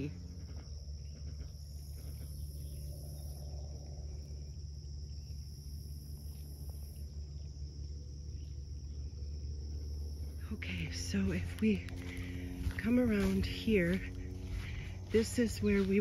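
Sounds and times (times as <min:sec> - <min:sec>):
insects trilling: 0:00.0 - 0:16.0
low steady rumble: 0:00.0 - 0:16.0
shrill insect chorus: 0:00.0 - 0:16.0.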